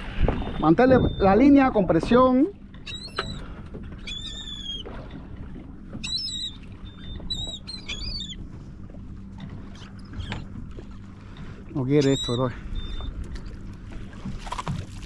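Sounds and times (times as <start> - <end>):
seabirds calling: 0.0 - 14.8
low steady hum: 0.0 - 15.0
water washing against boat: 0.0 - 15.0.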